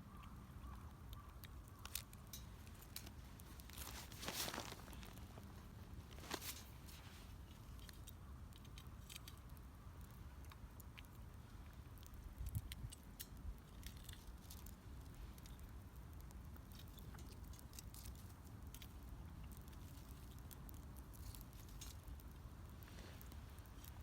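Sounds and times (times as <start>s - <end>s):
faint fire crackles and pops: 0.0s - 24.0s
low fire rumble: 0.9s - 24.0s.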